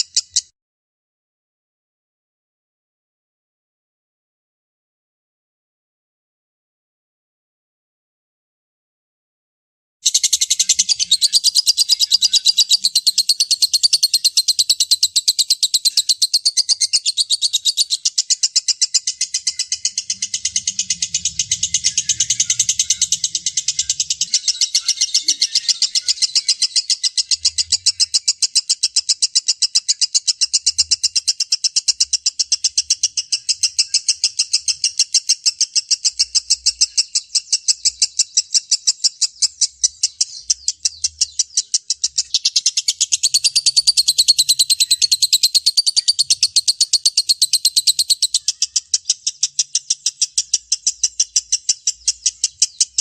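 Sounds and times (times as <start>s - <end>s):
bird high chattering song: 0.0s - 0.5s, 10.0s - 53.0s
higher busier bird chatter: 0.0s - 0.5s, 10.0s - 53.0s.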